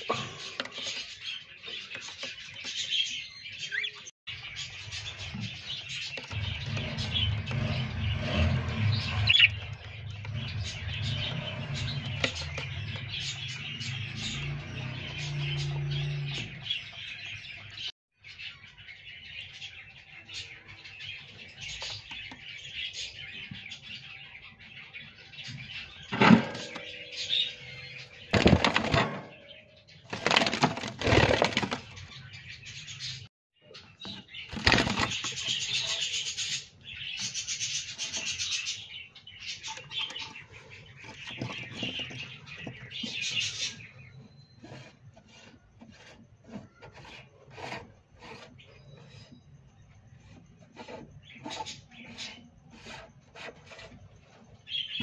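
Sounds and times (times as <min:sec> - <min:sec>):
budgerigars chattering and warbling: 0:00.0 - 0:30.2, 0:31.0 - 0:49.4, 0:50.1 - 0:55.0.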